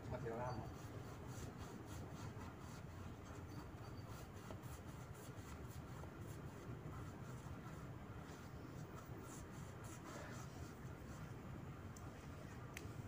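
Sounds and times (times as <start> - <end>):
low steady hum: 0.0 - 13.0
paintbrush scratchy brushing: 0.2 - 11.4.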